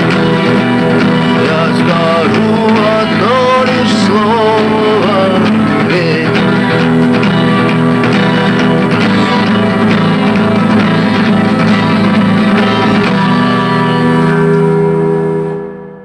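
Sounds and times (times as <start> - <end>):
acoustic guitars strumming: 0.0 - 16.0.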